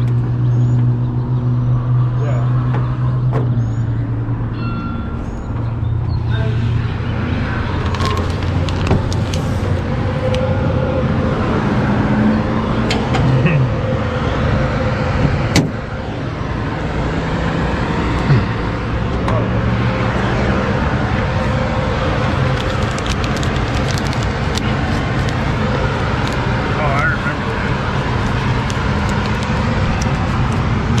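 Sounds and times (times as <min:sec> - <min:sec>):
engine and road rumble: 0:00.0 - 0:31.0.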